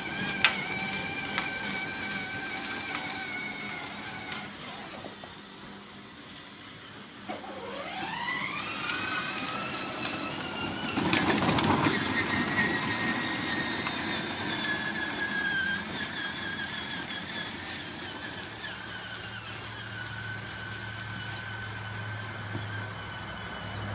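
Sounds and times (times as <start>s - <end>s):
motor whine: 0.0s - 23.9s.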